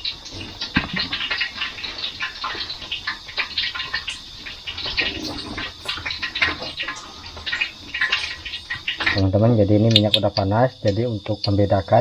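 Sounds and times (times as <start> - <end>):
oil crackling in a wok: 0.0 - 12.0.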